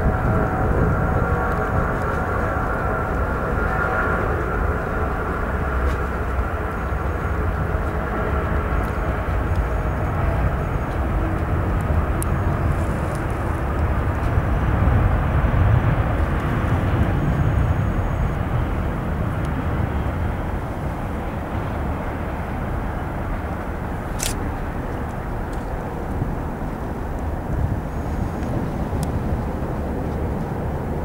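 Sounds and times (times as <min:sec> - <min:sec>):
jet engine rumble: 0:00.0 - 0:31.0.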